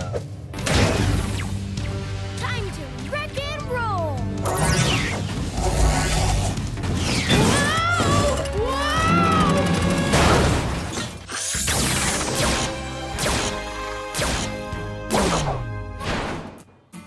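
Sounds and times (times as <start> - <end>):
cartoon background music: 0.0 - 17.0.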